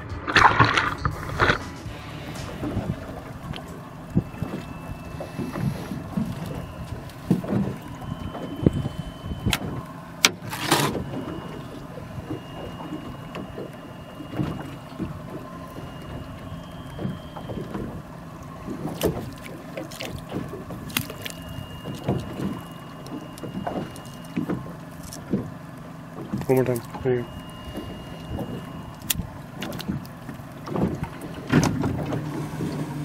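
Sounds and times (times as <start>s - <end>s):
water lapping against boat hull: 0.0s - 33.0s
wind: 0.0s - 33.0s.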